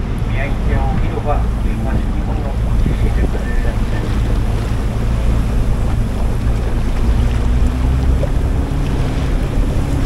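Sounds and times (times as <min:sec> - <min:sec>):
boat engine droning: 0:00.0 - 0:10.0
water rushing past hull: 0:00.0 - 0:10.0
wind buffeting microphone: 0:00.0 - 0:10.0.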